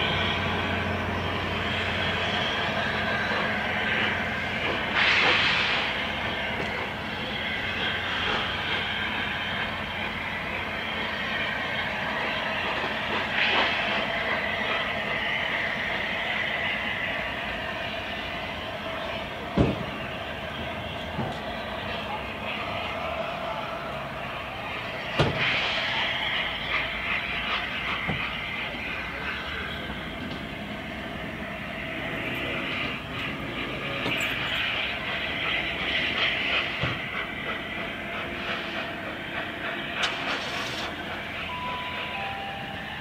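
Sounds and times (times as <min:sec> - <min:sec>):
steam locomotive drain cocks hissing: 0:00.0 - 0:43.0
train wheels clicking over points: 0:00.0 - 0:43.0.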